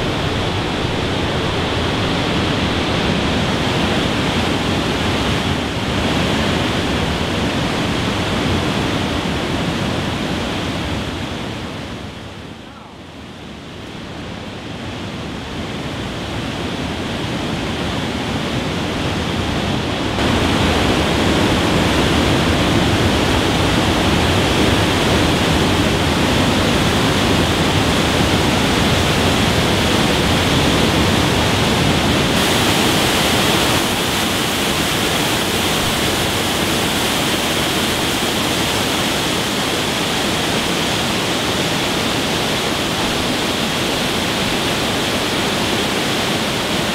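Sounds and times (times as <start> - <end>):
waterfall rushing water: 0.0 - 46.9.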